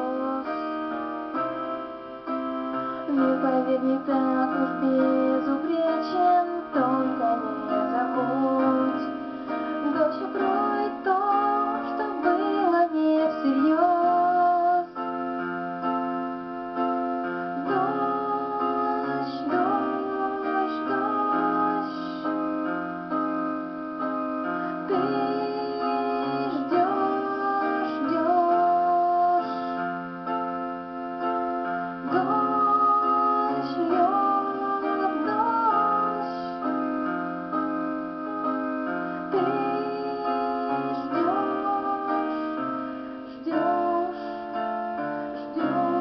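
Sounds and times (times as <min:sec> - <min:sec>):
keyboard piano music: 0:00.0 - 0:46.0.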